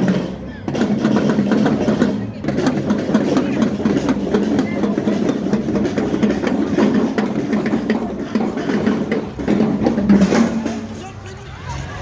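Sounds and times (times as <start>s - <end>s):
lower drums: 0.0s - 11.0s
snare drum strokes: 0.0s - 11.0s.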